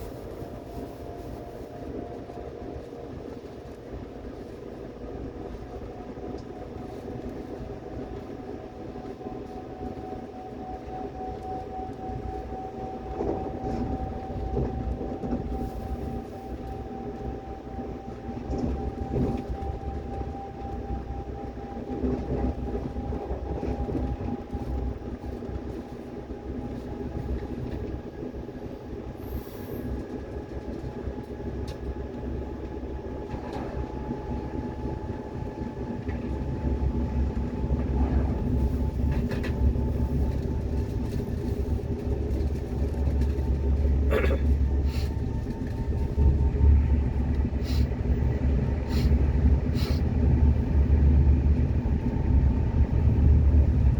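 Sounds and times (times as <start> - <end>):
subway train rumble and wheel clatter: 0.0 - 53.9.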